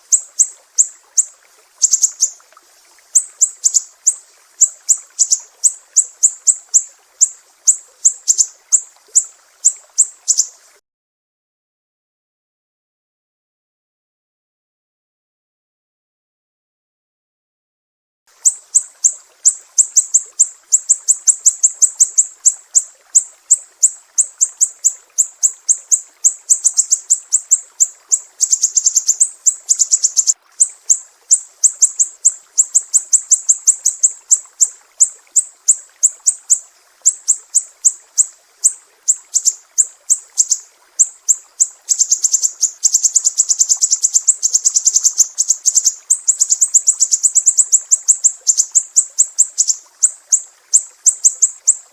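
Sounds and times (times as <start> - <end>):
songbird chirping: 0.0 - 10.8, 18.4 - 51.9.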